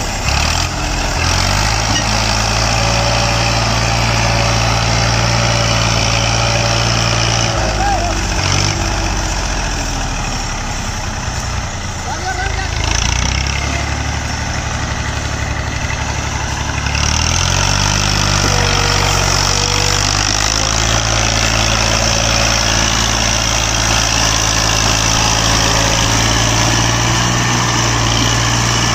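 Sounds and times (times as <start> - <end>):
tractor diesel engine revving: 0.0 - 28.9.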